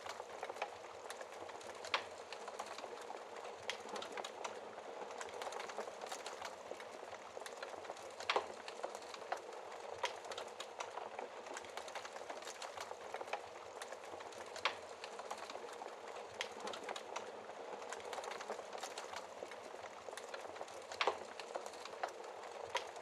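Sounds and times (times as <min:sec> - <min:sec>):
loud snaps of fire: 0:00.0 - 0:23.0
wood fire crackling: 0:00.0 - 0:23.0.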